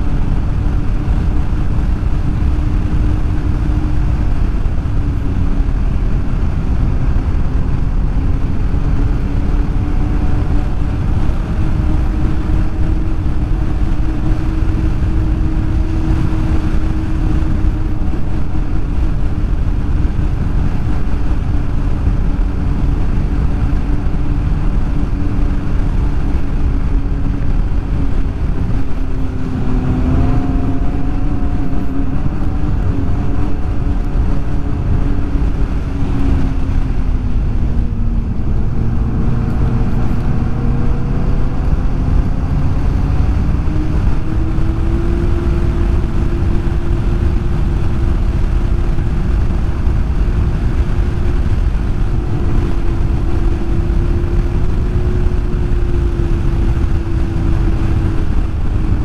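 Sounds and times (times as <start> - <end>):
snowmobile engine running: 0.0 - 59.0.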